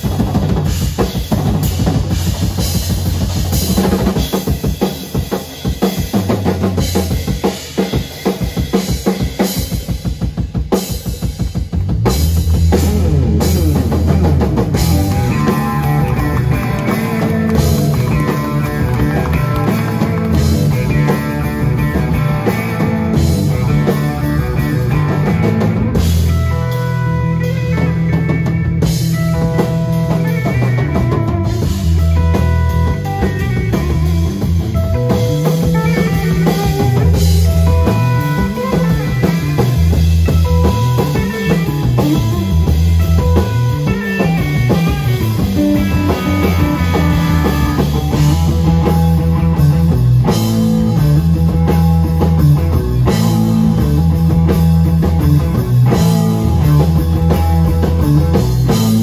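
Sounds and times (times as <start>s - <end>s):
drum fills: 0.0s - 59.0s
rock band playing instrumental: 0.0s - 59.0s.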